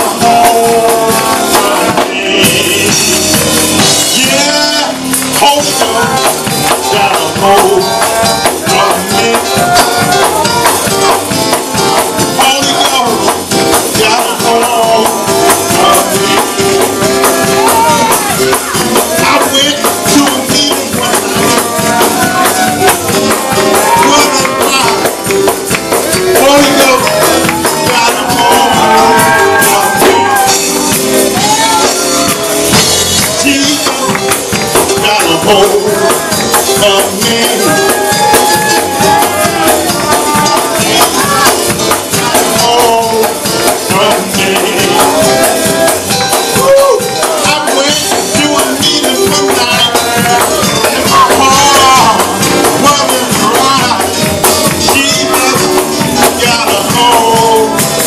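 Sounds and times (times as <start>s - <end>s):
fast gospel music: 0.0s - 58.0s
voices singing and shouting: 0.0s - 58.0s
tambourines shaking: 3.0s - 58.0s.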